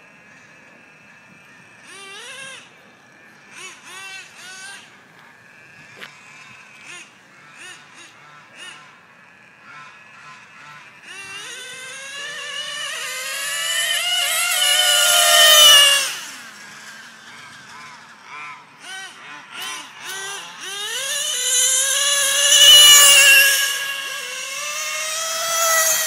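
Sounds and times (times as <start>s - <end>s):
nitro rc engine screaming: 0.1s - 26.0s.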